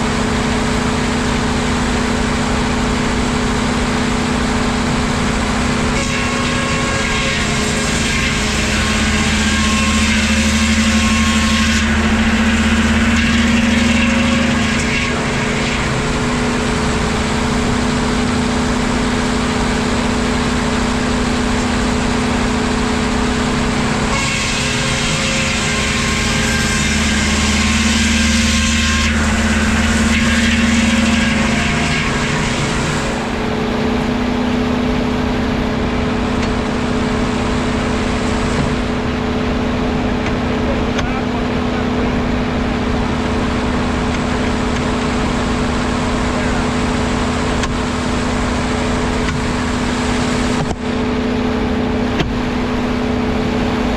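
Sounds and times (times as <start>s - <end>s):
saw cutting lumber: 0.0s - 53.9s
woodworking machinery humming: 0.0s - 53.9s.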